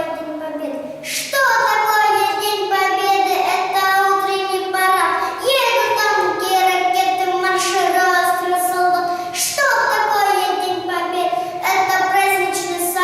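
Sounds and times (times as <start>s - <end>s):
boy singing: 0.0s - 13.0s.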